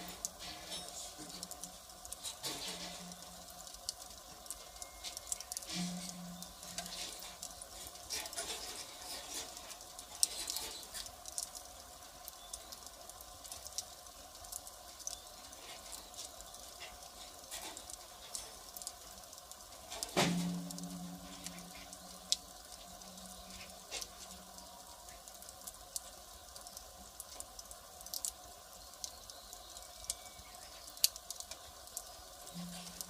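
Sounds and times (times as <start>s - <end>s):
firewood fire crackling: 0.0s - 33.0s
loud crack of fire: 0.0s - 33.0s.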